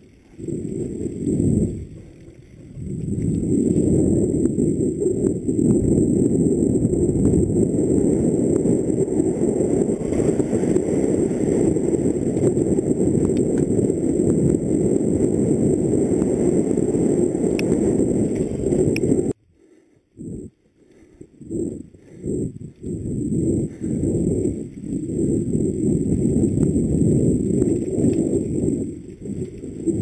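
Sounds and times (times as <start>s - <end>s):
wind buffeting microphone: 0.0s - 19.4s, 21.2s - 30.0s.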